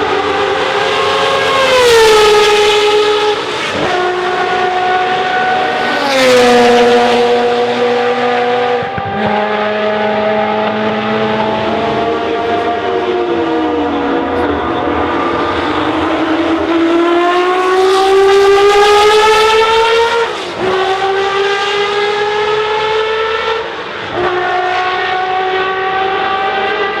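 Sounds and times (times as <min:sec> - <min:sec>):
race car engine accelerating: 0:00.0 - 0:27.0.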